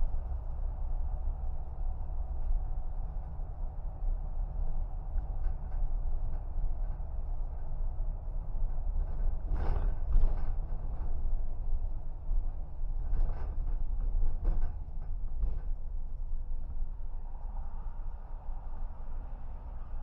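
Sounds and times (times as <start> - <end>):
car interior rumble: 0.0 - 20.0.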